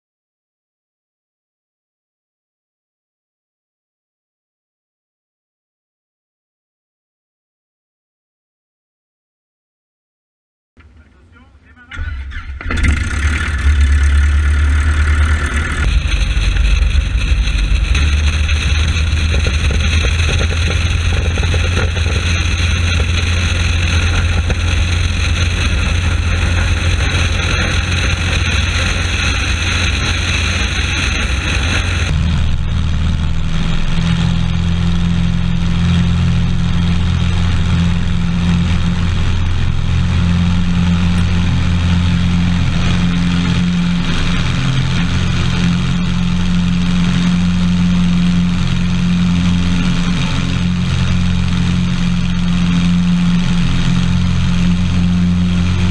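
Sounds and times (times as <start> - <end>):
propeller engine drone: 10.8 - 55.9.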